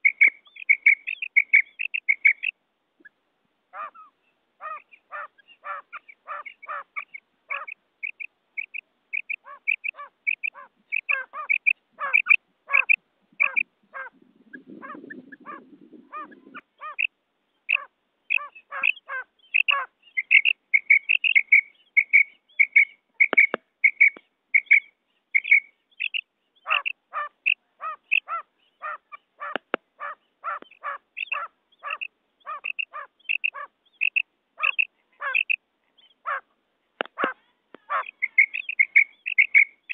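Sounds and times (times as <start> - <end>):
quail calling: 0.0 - 3.1, 3.7 - 17.1, 17.7 - 39.9.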